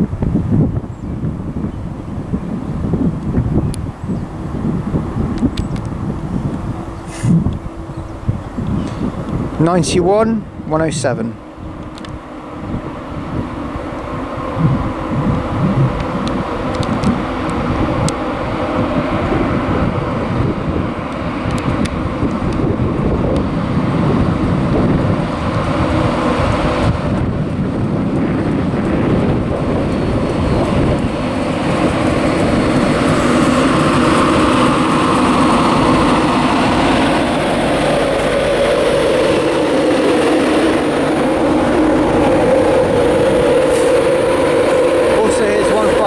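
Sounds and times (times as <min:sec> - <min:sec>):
train rumble: 0:00.0 - 0:46.0.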